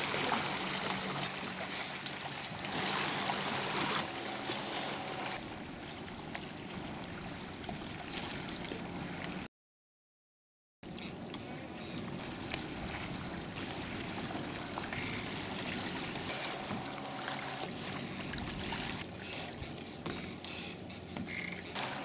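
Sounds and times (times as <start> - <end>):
water splashing along a hull: 0.0 - 9.5, 10.8 - 22.0.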